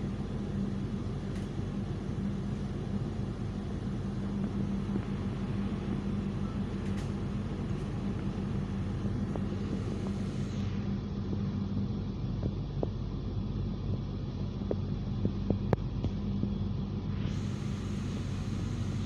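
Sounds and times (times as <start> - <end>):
train rumbling: 0.0 - 16.2.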